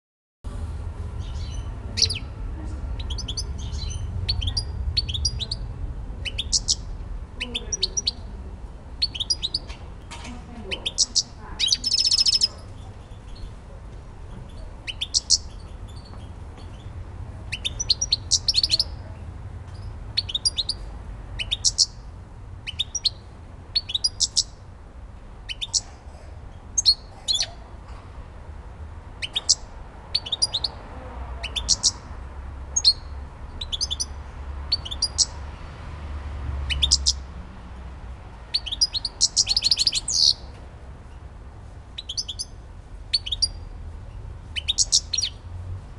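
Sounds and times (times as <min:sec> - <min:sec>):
bird twittering song: 0:01.1 - 0:08.3, 0:09.0 - 0:13.6, 0:14.2 - 0:19.1, 0:19.7 - 0:24.6, 0:25.4 - 0:27.6, 0:29.2 - 0:32.1, 0:32.7 - 0:35.6, 0:36.6 - 0:37.3, 0:38.4 - 0:41.3, 0:42.0 - 0:45.5.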